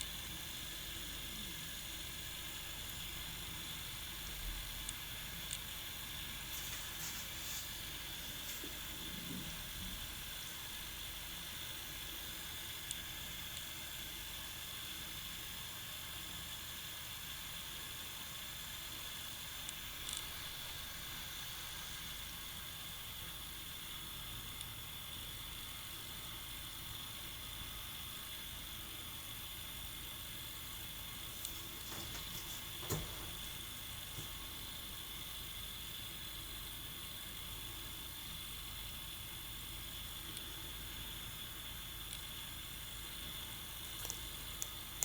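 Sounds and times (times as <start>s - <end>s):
faint high-pitched whine: 0.0s - 45.0s
steady background hiss: 0.0s - 45.0s.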